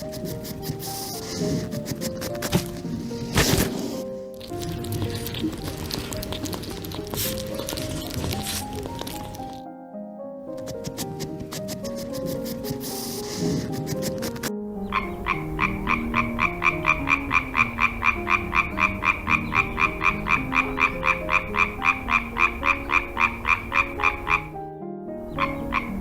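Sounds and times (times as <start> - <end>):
frog croaking: 0.0 - 9.6, 11.8 - 24.6, 25.2 - 26.0.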